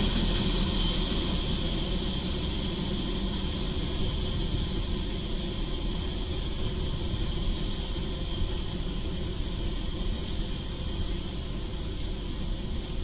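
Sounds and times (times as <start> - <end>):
rough low rumble and hiss: 0.0 - 13.0.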